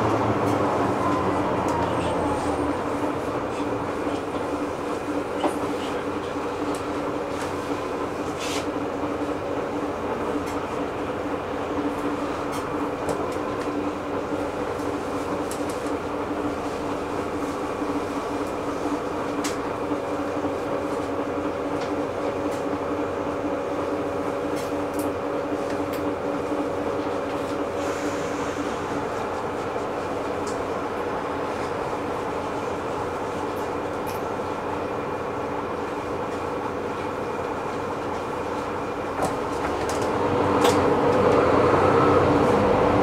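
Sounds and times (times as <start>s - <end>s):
bus drive hum and road noise: 0.0s - 43.0s.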